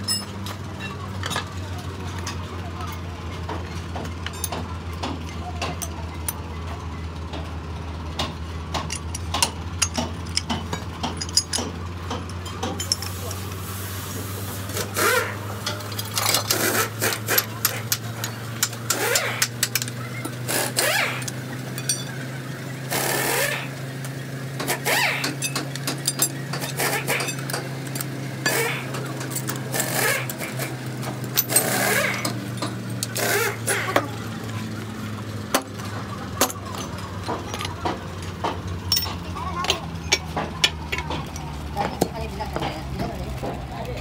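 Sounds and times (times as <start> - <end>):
hand tools clinking on steel: 0.0 - 7.4, 8.2 - 13.5, 14.7 - 34.6, 35.5 - 44.0
low machine hum: 0.0 - 44.0.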